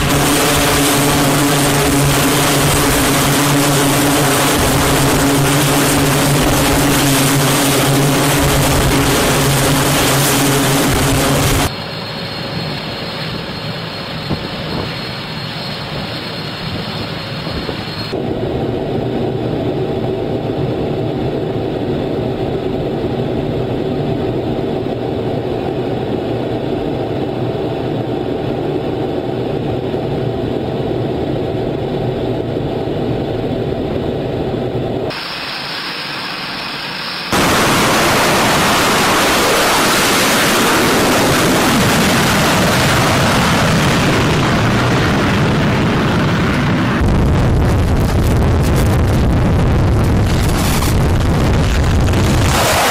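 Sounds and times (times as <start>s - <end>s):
jet engine hum and whine: 0.0s - 52.9s
jet engine roaring: 0.0s - 52.9s.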